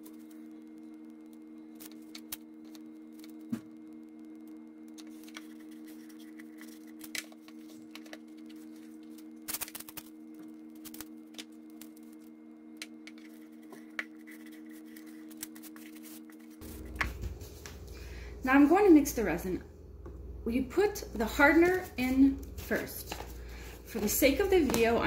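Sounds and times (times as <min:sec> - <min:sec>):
tape crackling and tapping: 0:00.0 - 0:18.0, 0:21.6 - 0:25.0
steady low hum: 0:00.0 - 0:25.0.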